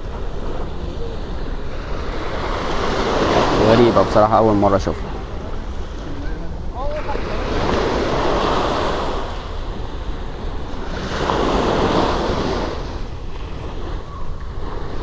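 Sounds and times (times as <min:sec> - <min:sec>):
waves washing onto shore: 0:00.0 - 0:15.0
wind buffeting microphone: 0:00.0 - 0:15.0.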